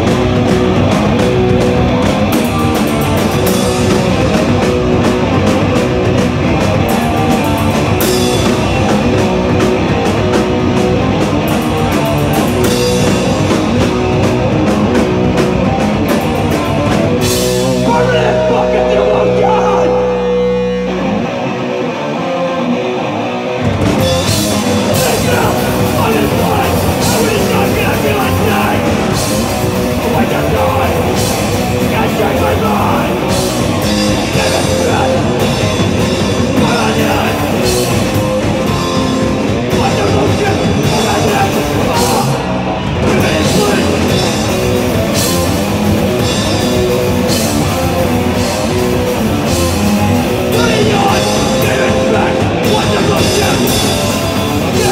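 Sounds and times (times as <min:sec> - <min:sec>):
drums with crashing cymbals: 0:00.0 - 0:18.8, 0:23.8 - 0:54.9
bass guitar: 0:00.0 - 0:54.9
distorted guitars: 0:00.0 - 0:54.9.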